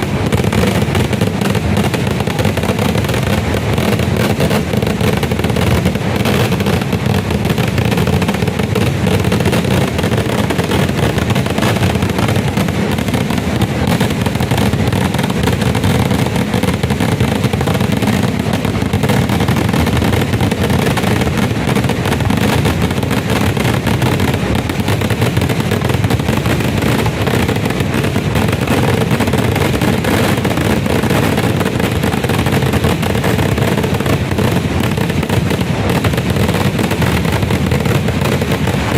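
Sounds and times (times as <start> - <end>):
firecrackers going off rapidly: 0.0 - 38.9.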